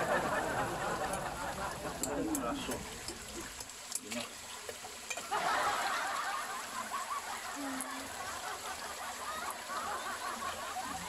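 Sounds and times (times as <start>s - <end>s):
creek water trickling and gurgling: 0.0s - 11.0s.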